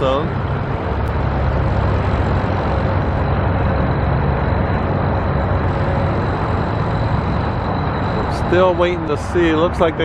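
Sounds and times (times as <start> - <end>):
outdoor background rumble and hiss: 0.0 - 10.0.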